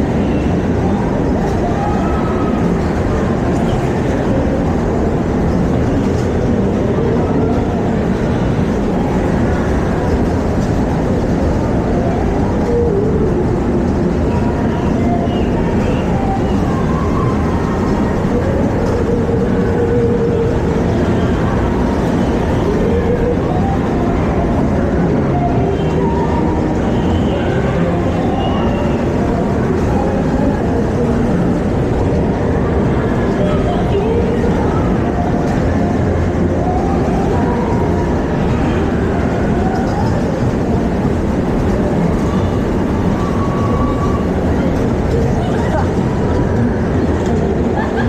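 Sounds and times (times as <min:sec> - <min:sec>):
ride car rumbling on track: 0:00.0 - 0:48.0.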